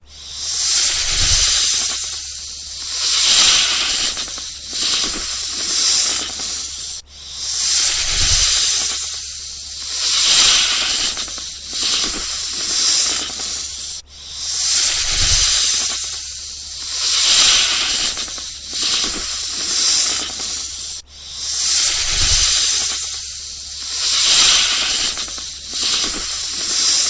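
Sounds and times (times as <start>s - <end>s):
snake hissing: 0.0s - 27.0s.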